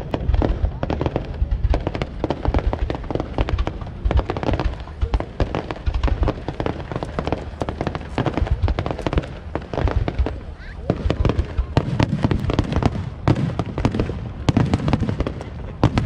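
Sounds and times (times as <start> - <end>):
deep firework booms: 0.0 - 16.0
fireworks bangs and crackles: 0.0 - 16.0.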